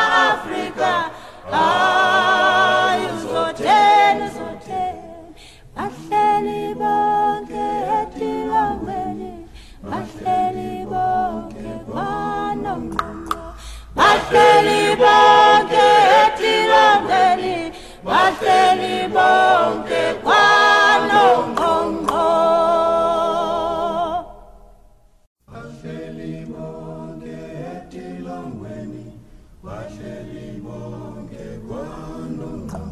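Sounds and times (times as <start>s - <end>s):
choir singing in harmony: 0.0s - 24.7s, 25.5s - 32.9s.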